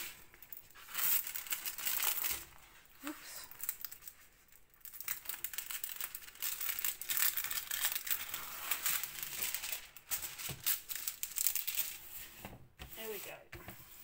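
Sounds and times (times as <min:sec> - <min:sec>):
plastic film crinkling: 0:00.0 - 0:12.2.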